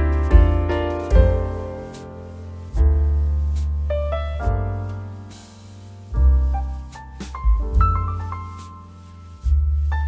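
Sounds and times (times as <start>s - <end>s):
deep keyboard chords: 0.0s - 10.0s.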